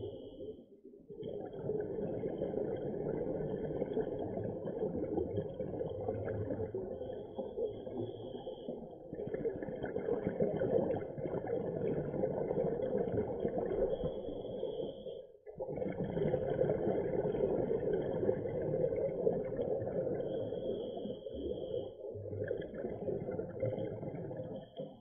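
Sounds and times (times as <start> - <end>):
muffled underwater rumble: 0.0 - 25.0.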